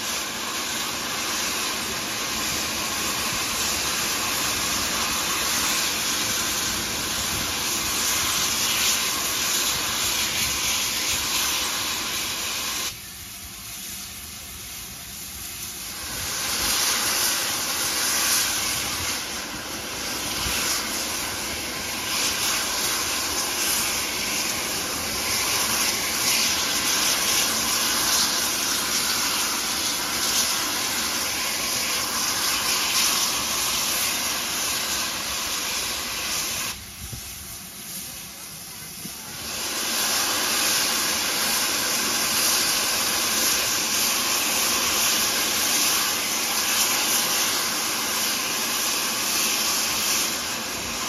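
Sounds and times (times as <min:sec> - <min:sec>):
steam locomotive venting steam: 0:00.0 - 0:51.0.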